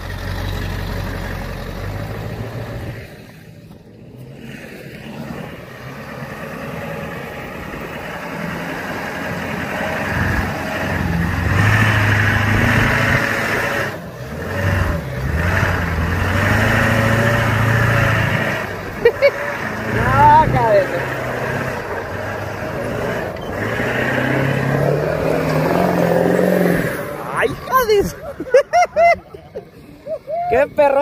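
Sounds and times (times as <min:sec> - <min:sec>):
vehicle engine revving: 0:00.0 - 0:31.0.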